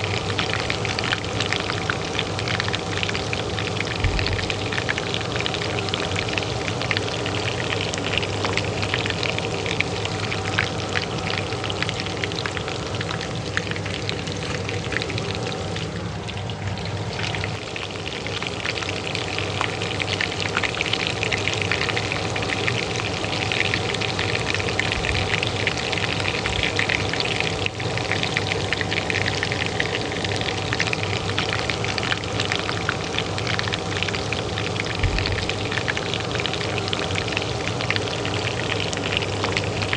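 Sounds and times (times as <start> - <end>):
oil sizzling in a pan: 0.0 - 39.9
range hood fan hum: 0.0 - 39.9.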